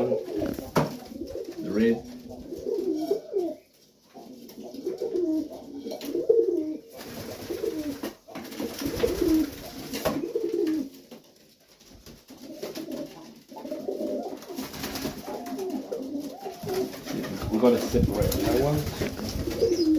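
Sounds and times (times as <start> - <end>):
pigeons cooing: 0.0 - 11.0, 12.3 - 19.9.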